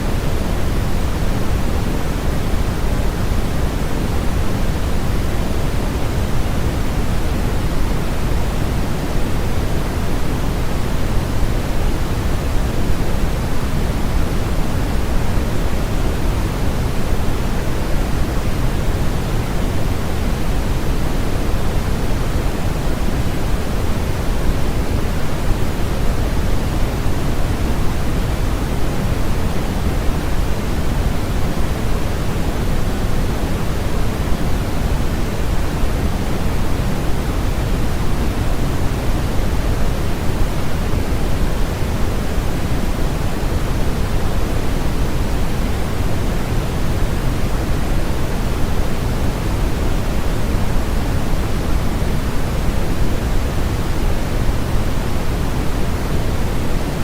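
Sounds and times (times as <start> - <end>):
steady synthetic pink noise: 0.0 - 57.0.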